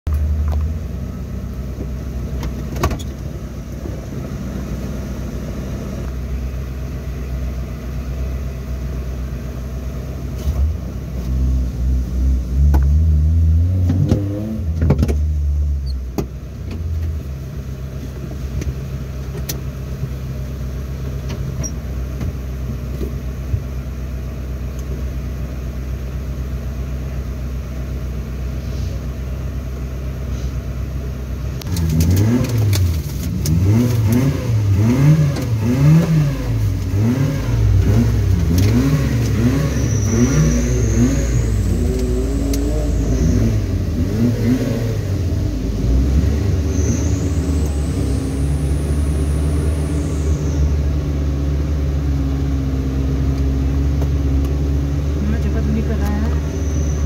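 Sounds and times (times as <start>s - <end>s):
engine idling and revving: 0.0s - 57.0s.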